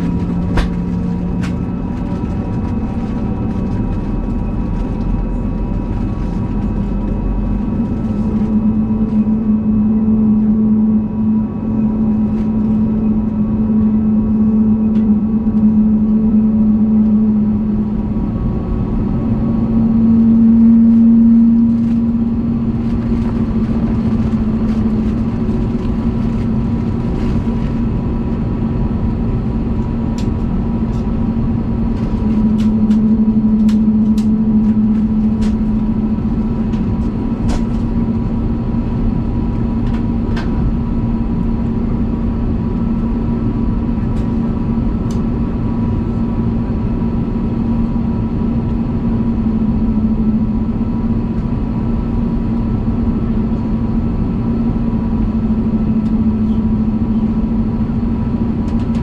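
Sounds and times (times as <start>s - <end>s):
aircraft cabin engine hum: 0.0s - 59.0s.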